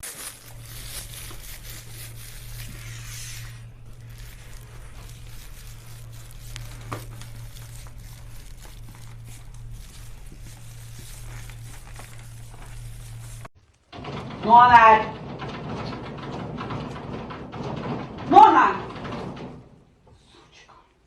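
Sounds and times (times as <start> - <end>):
washing machine humming: 0.0 - 20.3.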